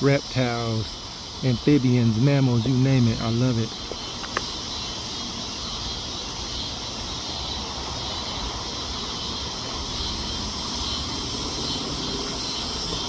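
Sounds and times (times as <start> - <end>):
faint insect chirring: 0.0 - 13.0
outdoor background noise: 0.0 - 13.0.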